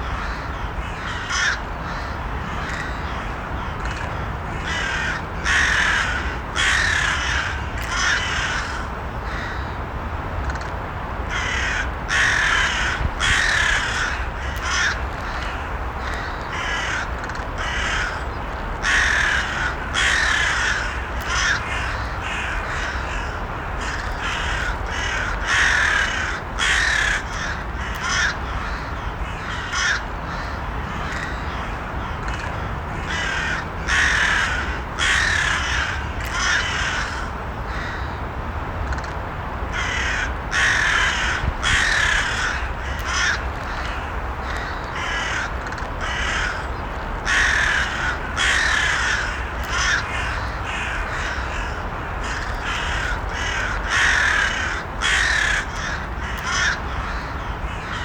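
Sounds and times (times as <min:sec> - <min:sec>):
crows cawing: 0:00.0 - 0:09.8, 0:11.3 - 0:38.2, 0:39.7 - 0:58.0.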